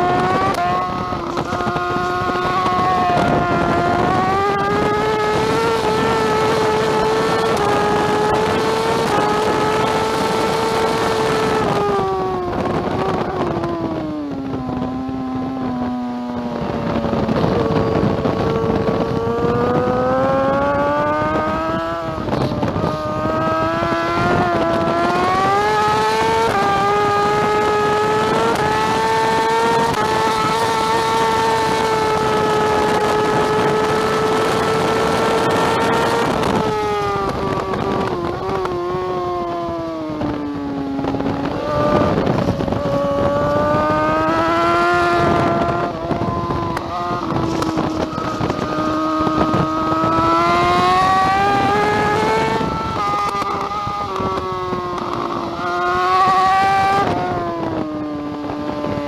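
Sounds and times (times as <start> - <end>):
motorcycle engine at race pace: 0.0 - 59.0
wind rushing: 0.0 - 59.0.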